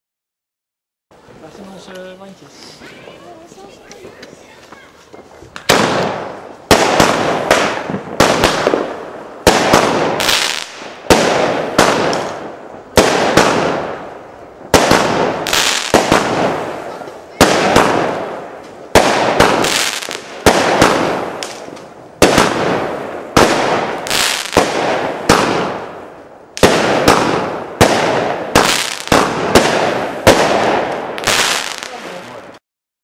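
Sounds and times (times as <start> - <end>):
firework bangs: 3.0 - 32.6.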